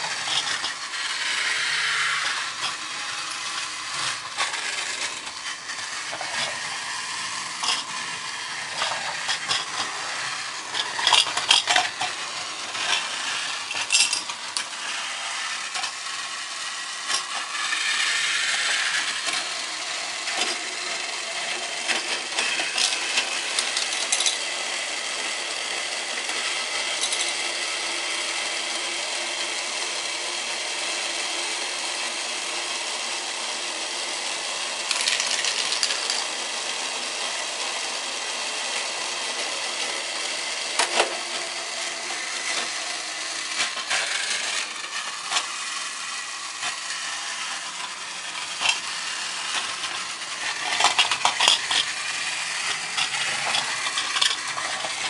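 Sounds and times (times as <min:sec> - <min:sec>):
toy train motor whine: 0:00.0 - 0:55.0.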